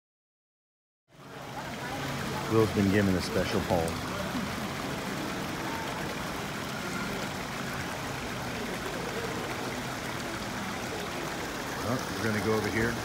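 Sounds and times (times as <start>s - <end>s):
murmur of voices: 1.1s - 13.0s
water splashing into fish tank: 1.4s - 13.0s.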